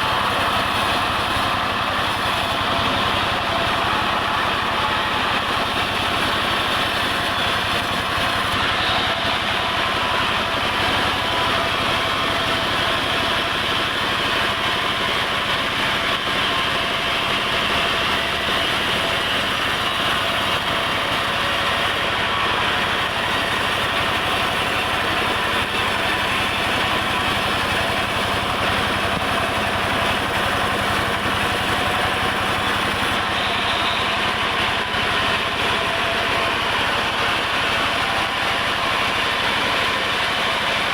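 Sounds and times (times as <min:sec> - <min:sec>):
log saw machinery humming: 0:00.0 - 0:40.9.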